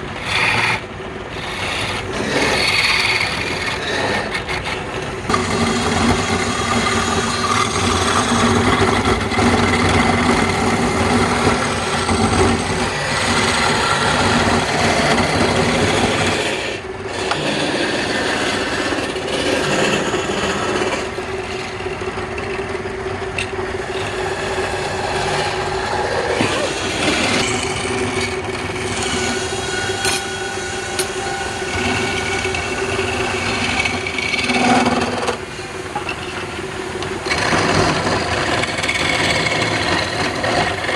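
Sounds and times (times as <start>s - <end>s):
turning tool scraping wood: 0.0s - 40.9s
wood lathe motor hum: 0.0s - 40.9s.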